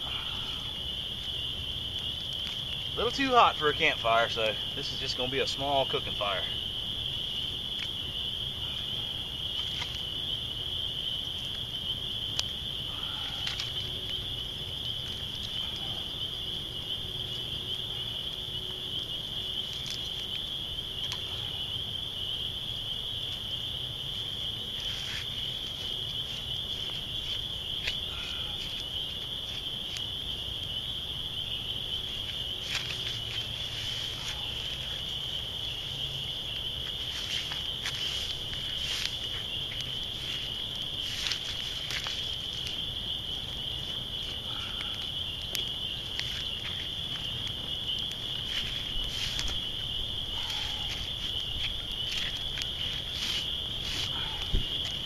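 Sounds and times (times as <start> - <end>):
fire crackling: 0.0 - 55.0
night insects trilling: 0.0 - 55.0.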